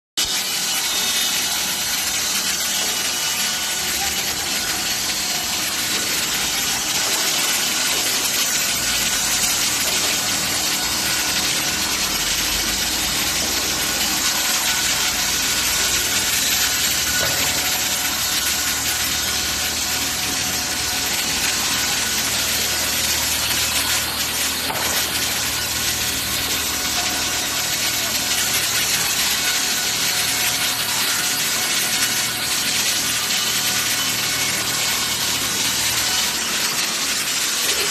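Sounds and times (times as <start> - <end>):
saw blade cutting stone: 0.2 - 37.9.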